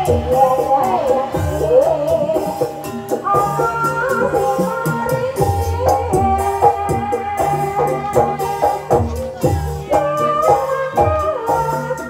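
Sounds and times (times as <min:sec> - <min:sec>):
gamelan metallic notes: 0:00.0 - 0:12.0
person singing: 0:00.0 - 0:12.0
steady drumming: 0:00.0 - 0:12.0.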